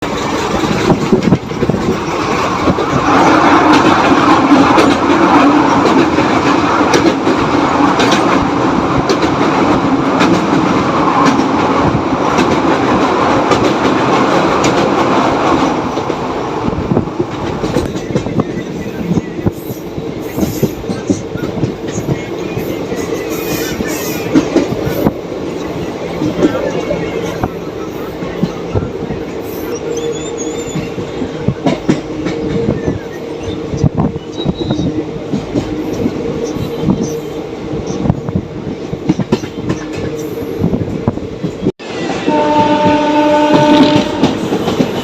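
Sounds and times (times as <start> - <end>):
train wheels clattering over rail joints: 0.0 - 29.7, 37.8 - 41.7, 42.3 - 45.0
train running roar: 0.0 - 45.0.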